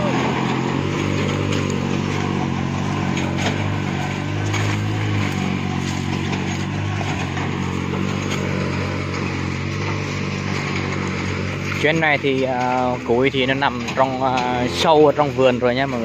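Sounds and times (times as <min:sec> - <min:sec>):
knocks and clatters: 0:00.0 - 0:14.8
cart engine running: 0:00.0 - 0:16.0.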